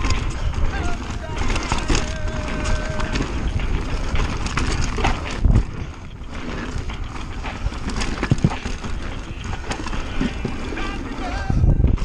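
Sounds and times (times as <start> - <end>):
bike rattling and clattering: 0.0 - 12.0
tyres running over dirt: 0.0 - 12.0.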